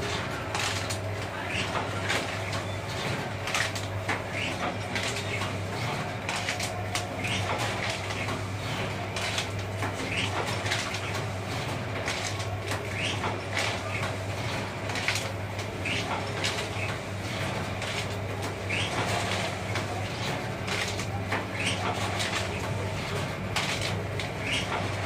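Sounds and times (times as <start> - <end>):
machine motor hum: 0.0 - 25.0.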